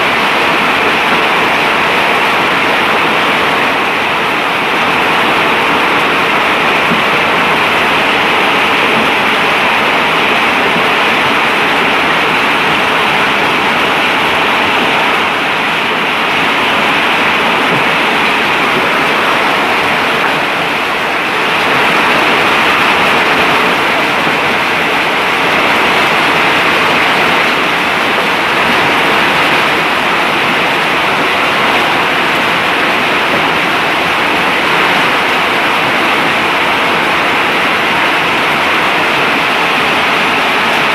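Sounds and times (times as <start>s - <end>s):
hail and heavy rain falling: 0.0s - 40.9s.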